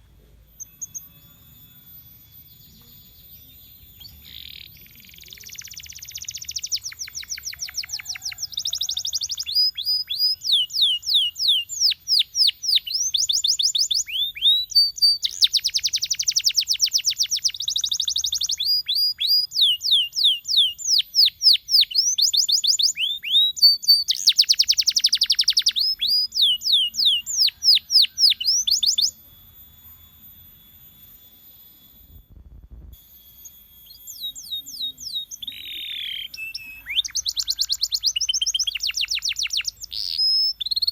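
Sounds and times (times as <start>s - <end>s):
canary singing trills: 0.3s - 32.2s, 33.3s - 40.9s.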